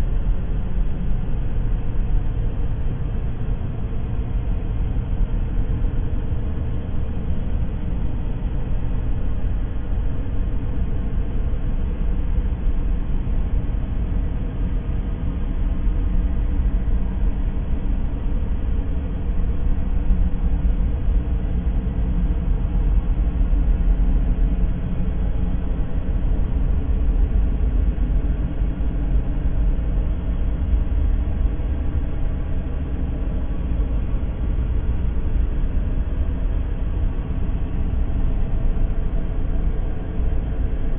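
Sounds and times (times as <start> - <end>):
deep bass rumble noise: 0.0 - 40.9.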